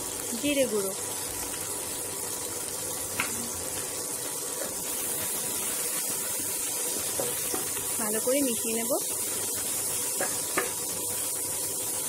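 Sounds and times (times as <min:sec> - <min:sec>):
onion and tomato sizzling in oil: 0:00.0 - 0:12.0.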